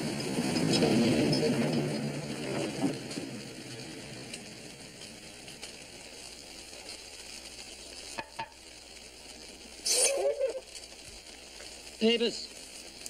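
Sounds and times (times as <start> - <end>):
low steady hiss: 0.0 - 13.0.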